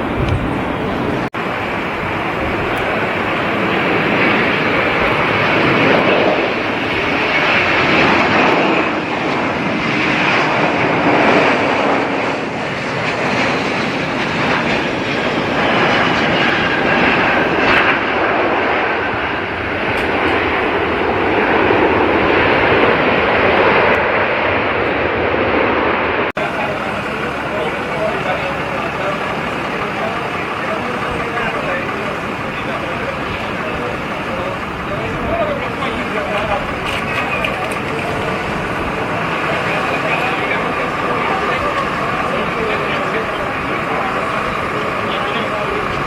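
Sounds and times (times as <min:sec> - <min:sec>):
airliner engines running: 0:00.0 - 0:46.0.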